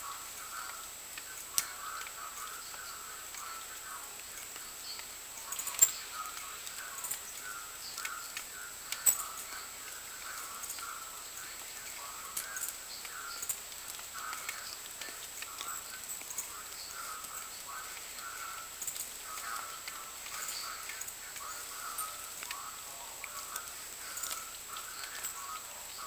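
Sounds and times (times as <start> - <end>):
sharp clicks: 0.4 - 25.8.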